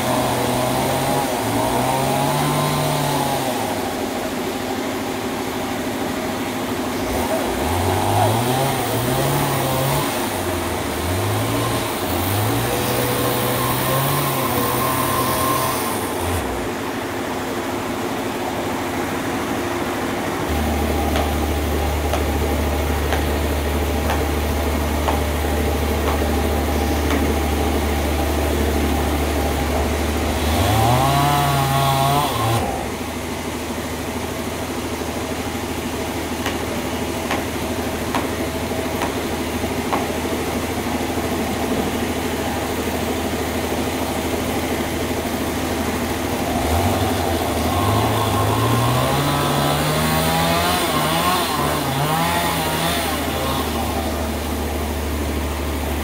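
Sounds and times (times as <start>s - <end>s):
saw engine revving: 0.0s - 4.5s, 6.8s - 17.0s, 20.4s - 33.2s, 34.9s - 56.0s.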